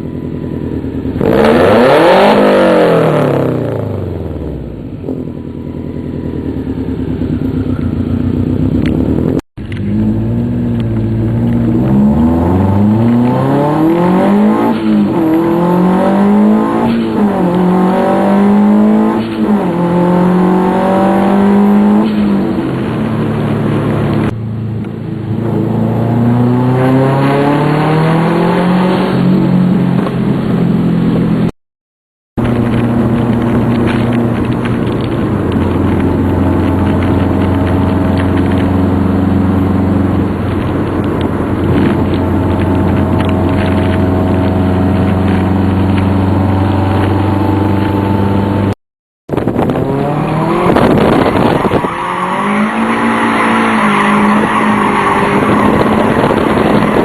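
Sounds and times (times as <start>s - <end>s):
car engine revving: 0.5s - 5.4s, 6.3s - 31.5s, 32.4s - 57.0s.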